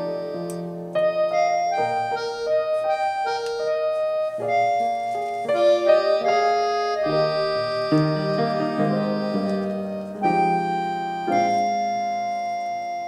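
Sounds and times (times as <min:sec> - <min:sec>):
keyboard melody: 0:00.0 - 0:13.0.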